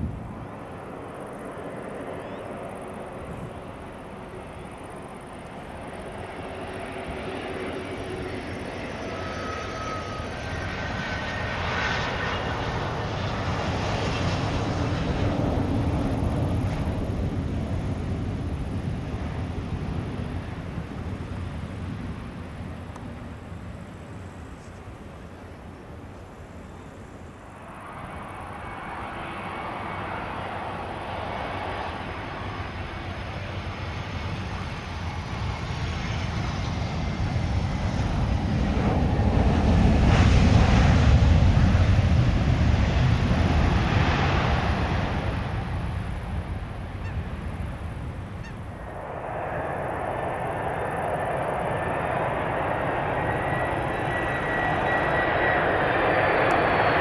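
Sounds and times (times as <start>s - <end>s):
jet engines rumbling: 0.0s - 57.0s
jet noise with high whine: 0.0s - 57.0s.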